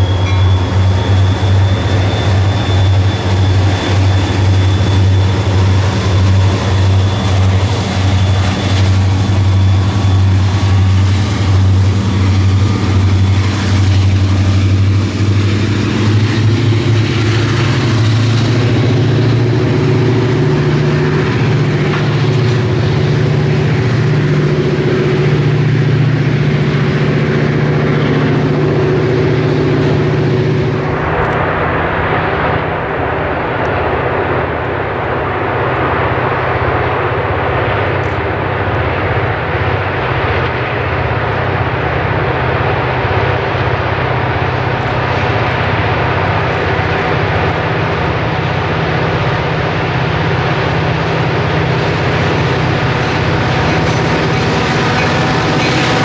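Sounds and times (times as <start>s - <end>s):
distant diesel train rumble: 0.0s - 56.0s
freight train wheels on rails: 0.0s - 56.0s
low drone: 0.0s - 56.0s.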